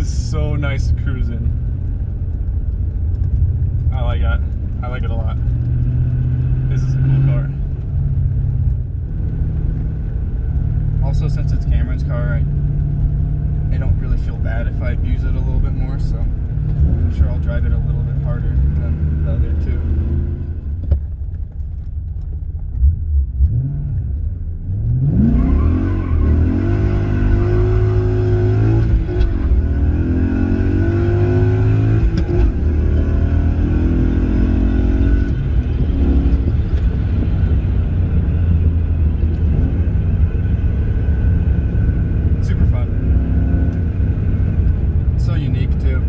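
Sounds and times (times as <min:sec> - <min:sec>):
car engine accelerating hard: 0:00.0 - 0:46.0.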